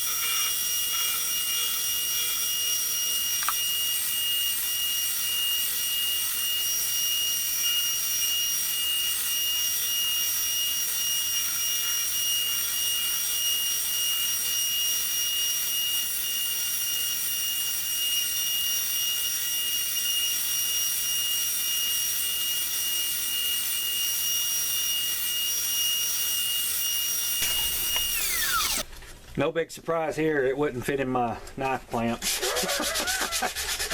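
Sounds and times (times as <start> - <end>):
belt grinder hiss and whine: 0.0 - 28.9.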